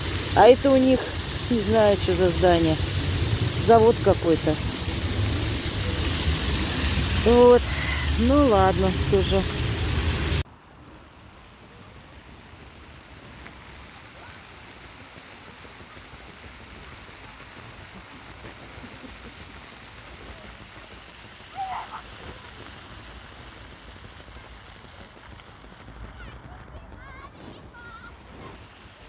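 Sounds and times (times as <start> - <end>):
fountain jets splattering on paving: 0.0 - 10.4, 11.3 - 29.0.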